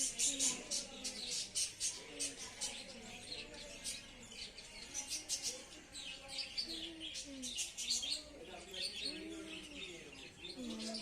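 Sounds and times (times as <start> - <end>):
faint voices: 0.0 - 11.0
small birds chirping: 0.0 - 11.0.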